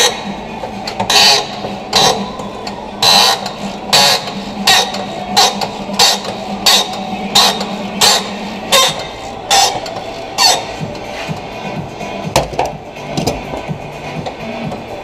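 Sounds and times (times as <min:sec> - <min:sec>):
rhythmic squeaking fastener: 0:00.0 - 0:15.0.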